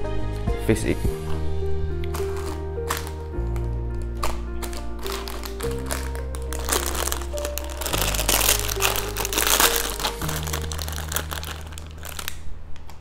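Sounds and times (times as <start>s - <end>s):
background music with held chords: 0.0s - 12.5s
plastic bag crinkling: 2.1s - 13.0s.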